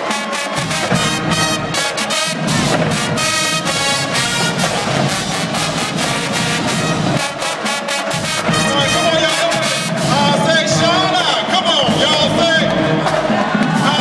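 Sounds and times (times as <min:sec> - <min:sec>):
drumline beat: 0:00.0 - 0:14.0
marching band brass: 0:00.0 - 0:14.0.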